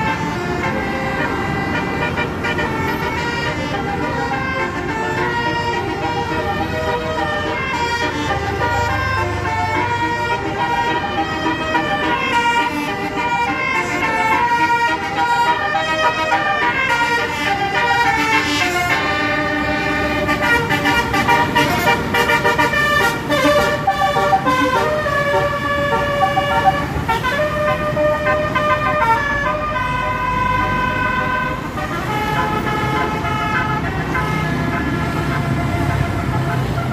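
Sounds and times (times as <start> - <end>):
musical bus horn melody: 0.0 - 36.9.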